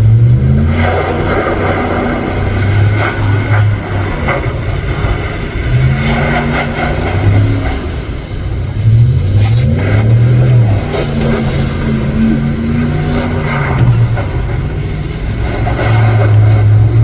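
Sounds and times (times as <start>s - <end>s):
pickup truck engine revving: 0.0s - 17.0s.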